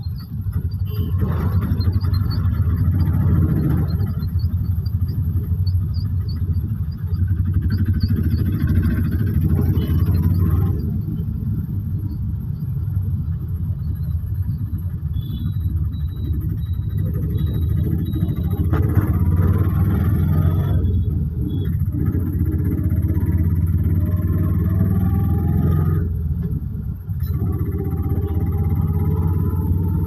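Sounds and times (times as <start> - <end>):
small engine rumbling: 0.0 - 30.0.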